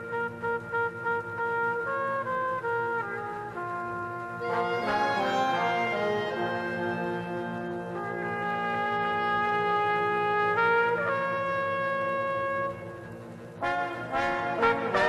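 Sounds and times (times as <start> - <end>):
brass instrument long notes: 0.0 - 15.0.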